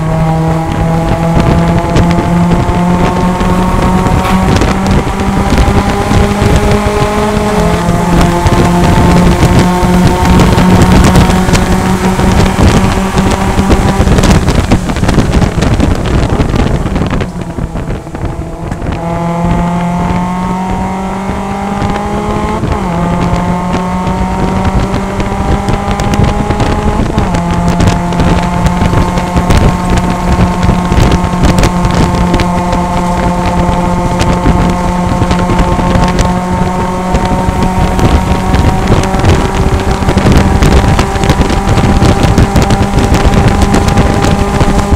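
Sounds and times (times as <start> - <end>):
race car engine at high revs: 0.0 - 44.9.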